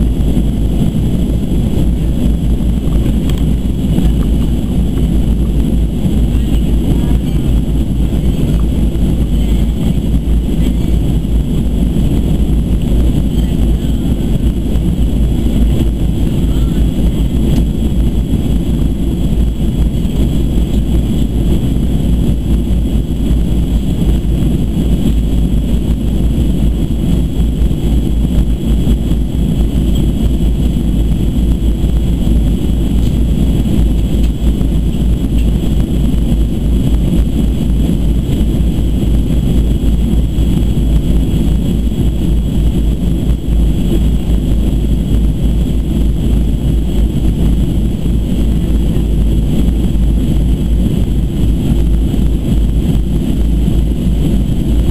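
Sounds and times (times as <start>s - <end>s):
high whine: 0.0s - 54.9s
jet engine and airflow rush: 0.0s - 54.9s.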